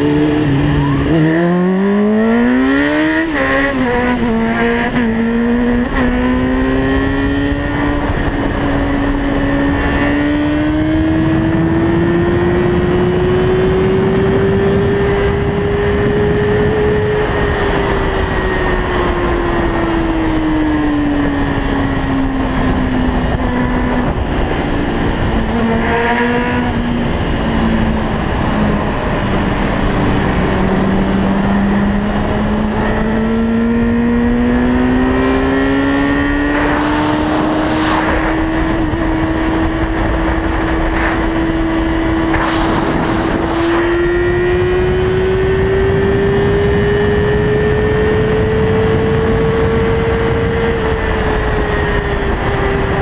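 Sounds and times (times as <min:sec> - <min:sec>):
road noise: 0:00.0 - 0:53.0
wind noise: 0:00.0 - 0:53.0.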